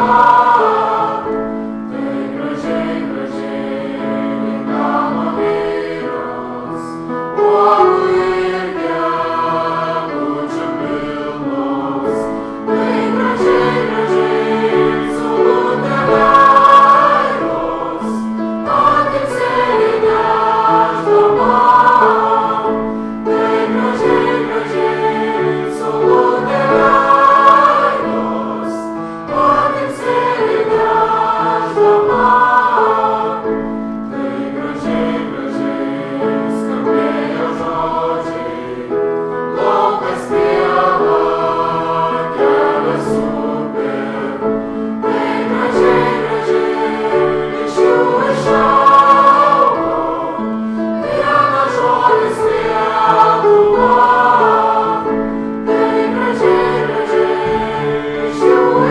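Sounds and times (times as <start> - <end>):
choir singing: 0.0 - 58.9.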